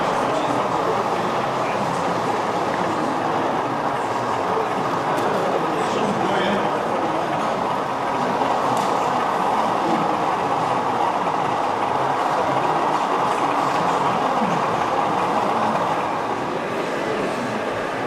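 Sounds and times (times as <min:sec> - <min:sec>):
model train wheels rumbling on rail: 0:00.0 - 0:18.0.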